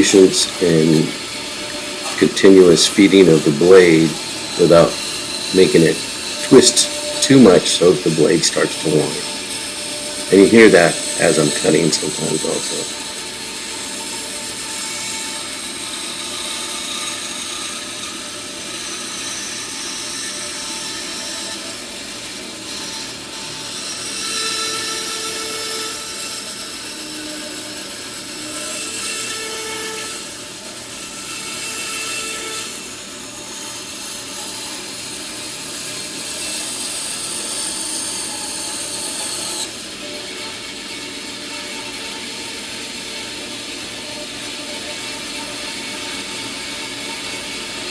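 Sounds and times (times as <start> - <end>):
bandsaw cutting wood: 0.0 - 47.9
saw blade whining: 0.0 - 47.9.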